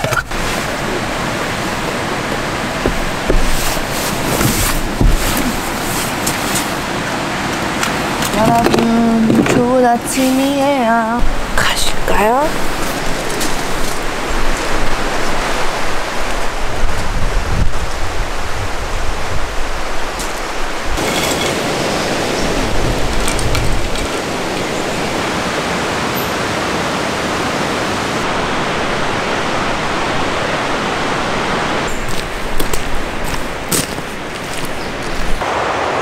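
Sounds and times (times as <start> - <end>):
wind rumble on microphone: 0.0 - 35.8
mountain stream rushing: 0.0 - 36.0.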